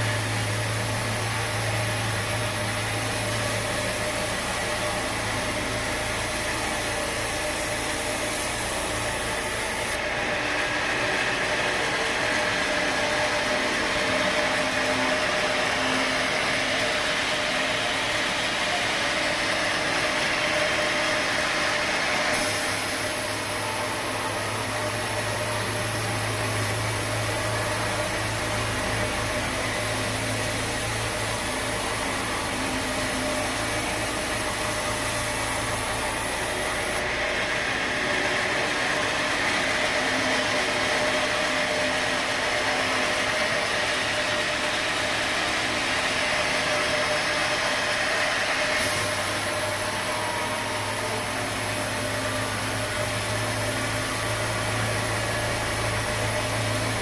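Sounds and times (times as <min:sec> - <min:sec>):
constant mechanical noise: 0:00.0 - 0:57.0
sawmill engine hum: 0:00.0 - 0:57.0.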